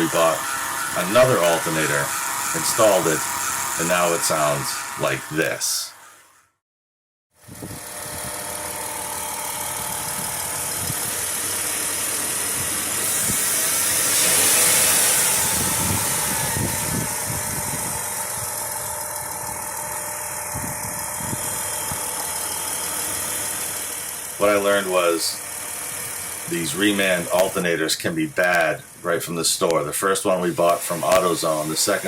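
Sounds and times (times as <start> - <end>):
car engine idling: 0.0 - 6.2, 7.6 - 32.0
alternator whine: 0.0 - 6.4, 7.4 - 32.0.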